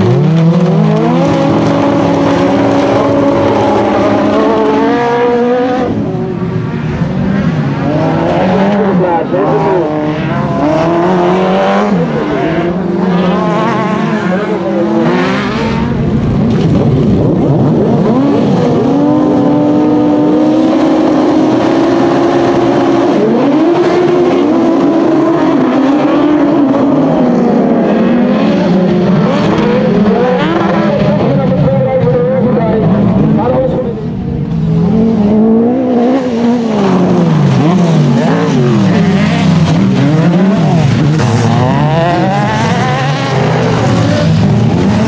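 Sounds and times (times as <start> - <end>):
race car engine revving: 0.0 - 45.0
several buggy engines roaring: 0.0 - 45.0.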